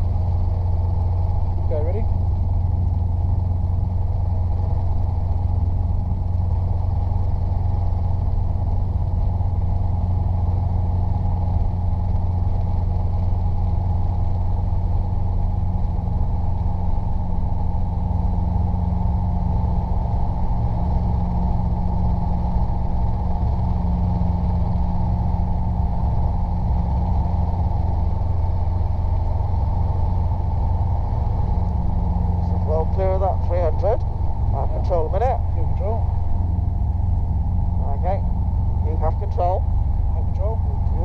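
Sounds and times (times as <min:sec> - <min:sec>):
helicopter engine and rotors: 0:00.0 - 0:41.0.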